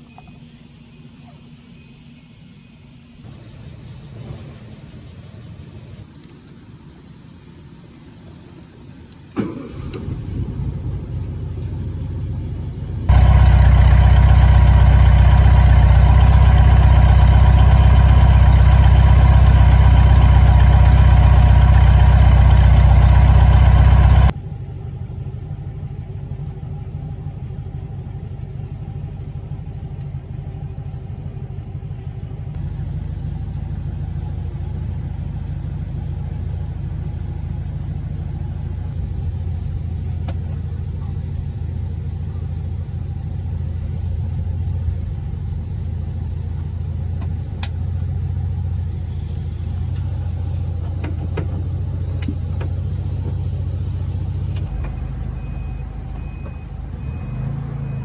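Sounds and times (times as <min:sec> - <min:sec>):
car engine idling: 0:07.2 - 0:58.0.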